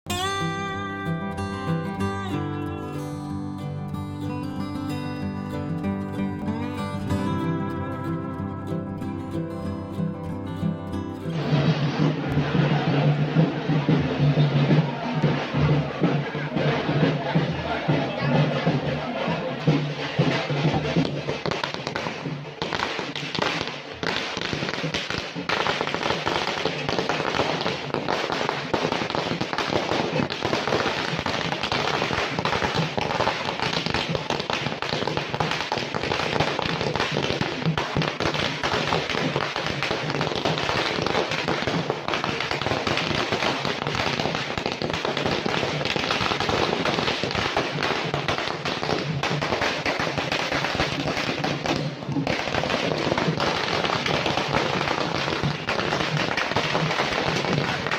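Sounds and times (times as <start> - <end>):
firecrackers banging: 9.0 - 57.9.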